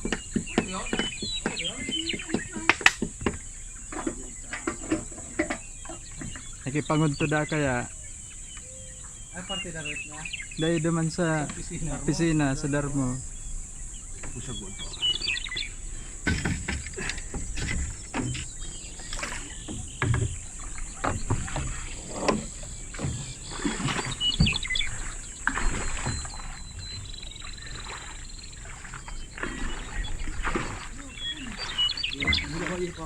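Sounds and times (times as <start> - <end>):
bird chirping: 0.0 - 33.0
high insect drone: 0.0 - 33.0
paddle splashing water: 0.0 - 33.0.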